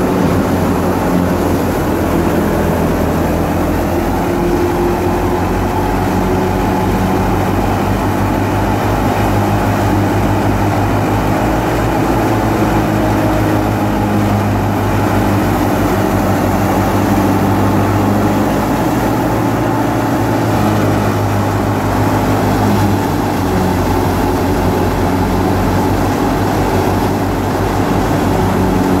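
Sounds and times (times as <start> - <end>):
tractor engine drone: 0.0 - 29.0
wheat thresher chewing straw: 0.0 - 29.0.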